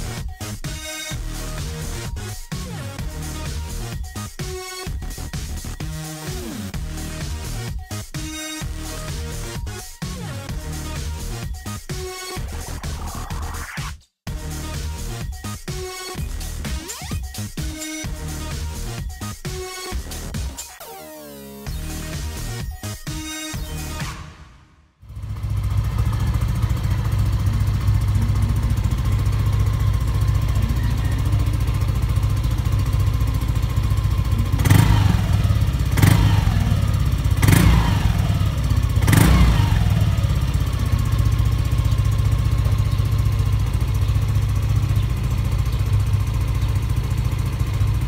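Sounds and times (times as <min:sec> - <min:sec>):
scooter engine idling and revving: 0:00.0 - 0:13.6, 0:14.3 - 0:20.8, 0:21.6 - 0:24.2, 0:25.0 - 0:48.0.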